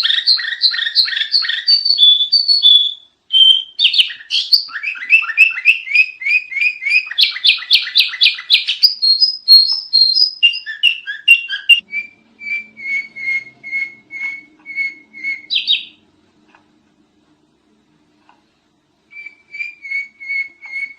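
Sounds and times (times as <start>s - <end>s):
bulbul singing: 0.0s - 16.1s, 19.1s - 20.9s.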